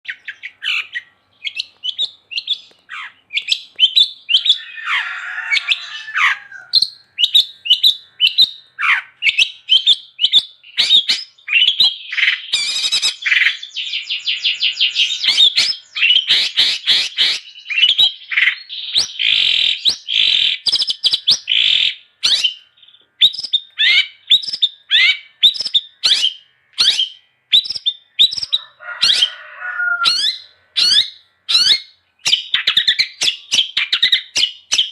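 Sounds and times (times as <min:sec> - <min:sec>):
shrike singing chirps and whistles: 0:00.1 - 0:34.9.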